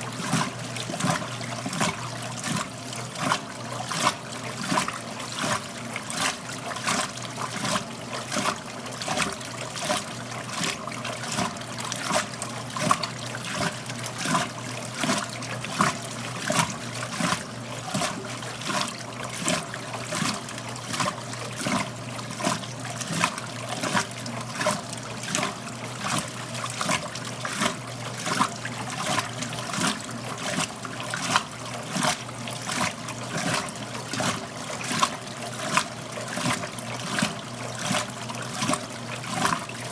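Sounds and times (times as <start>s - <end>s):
water sloshing in washing machine: 0.0s - 39.9s.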